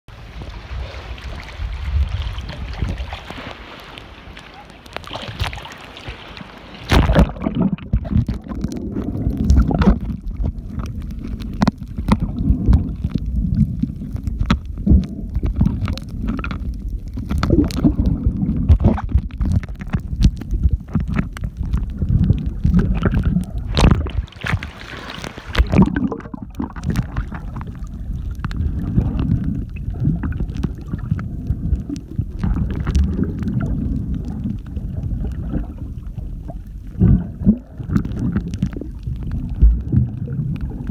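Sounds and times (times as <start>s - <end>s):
low underwater rumble: 0.1s - 40.9s
water splashing: 0.1s - 40.9s
underwater clicks: 6.8s - 40.9s.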